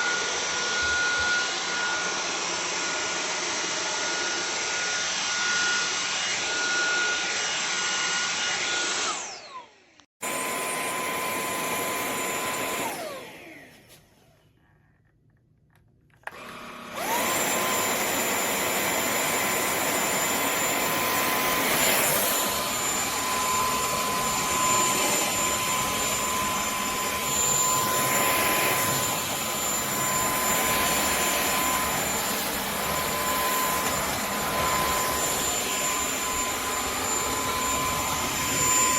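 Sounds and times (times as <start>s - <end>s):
vacuum motor whine: 0.0s - 14.5s, 16.2s - 38.9s.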